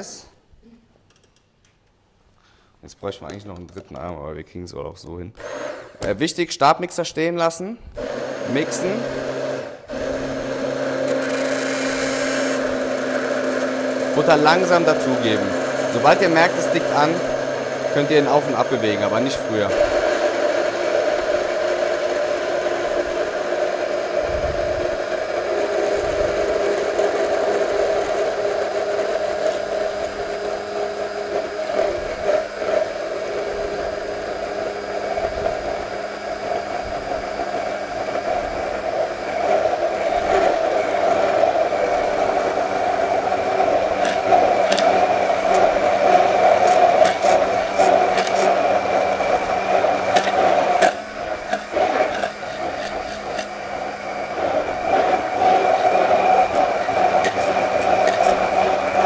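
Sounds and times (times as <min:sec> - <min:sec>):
stick blender whirring: 0:05.4 - 0:06.2, 0:07.9 - 0:59.0.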